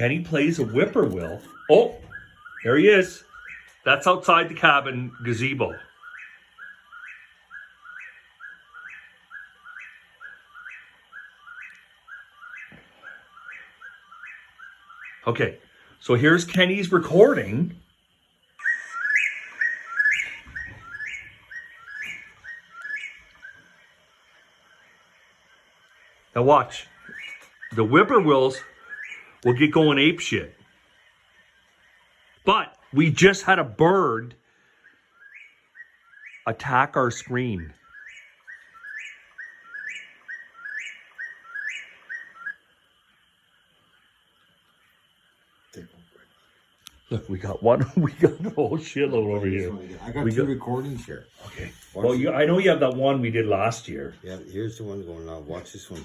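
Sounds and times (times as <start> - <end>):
recorded whistled bird song: 0.0 - 56.0.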